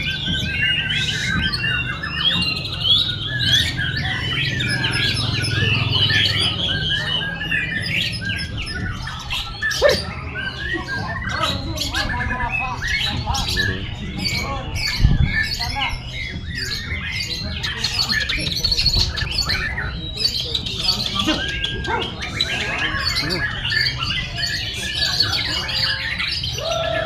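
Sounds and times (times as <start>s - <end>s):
bird singing whistled song: 0.0s - 27.0s.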